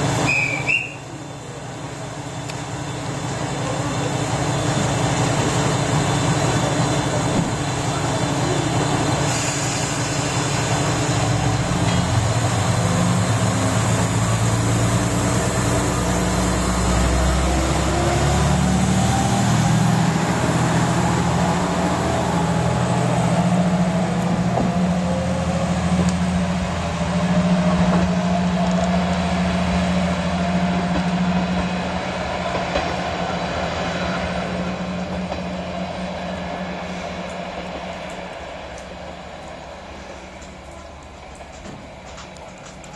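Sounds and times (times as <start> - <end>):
diesel railcar engine accelerating: 0.0 - 42.9.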